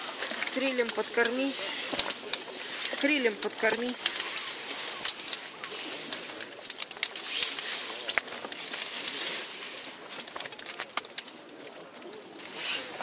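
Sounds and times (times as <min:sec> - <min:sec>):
fish flopping on wet ice: 0:00.0 - 0:13.0.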